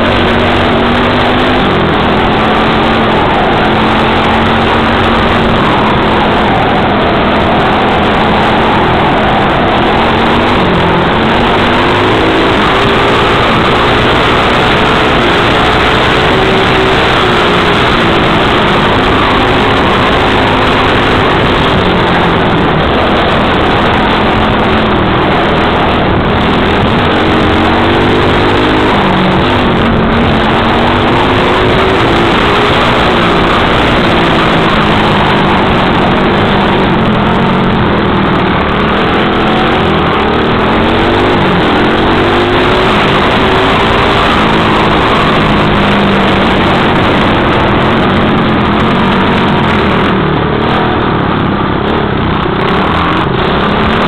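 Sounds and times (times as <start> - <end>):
dirt bike engine revving: 0.0 - 54.0
wind and riding noise: 0.0 - 54.0.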